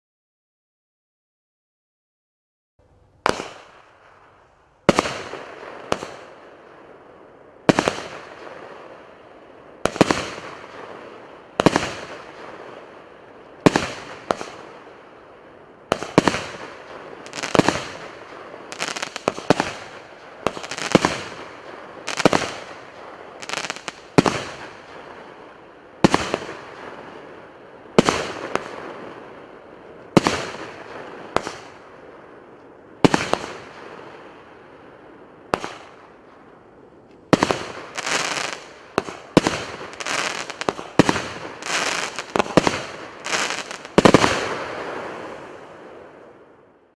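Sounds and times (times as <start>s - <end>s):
firework bangs: 3.2s - 6.9s, 7.6s - 9.1s, 9.7s - 34.6s, 35.2s - 36.4s, 37.3s - 46.3s.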